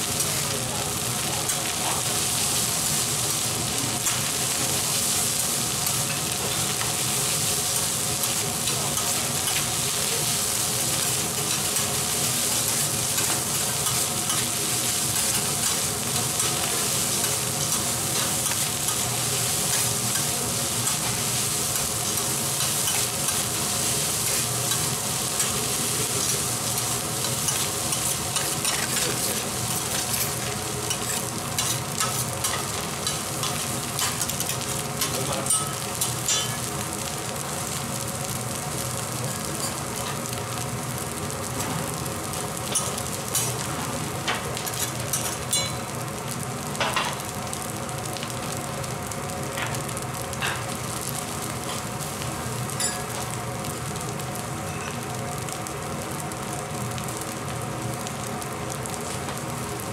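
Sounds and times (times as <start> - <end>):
rice sizzling on a griddle: 0.0 - 59.9.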